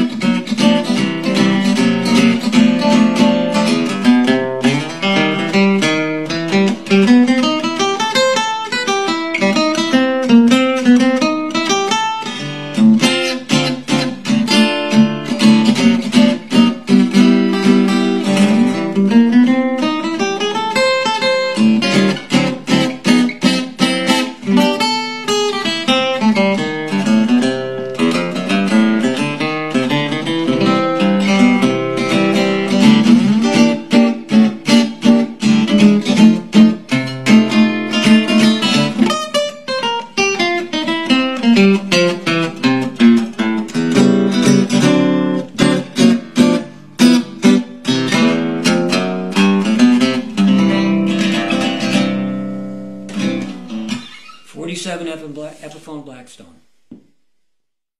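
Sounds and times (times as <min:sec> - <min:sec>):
acoustic guitar playing: 0:00.0 - 0:57.4.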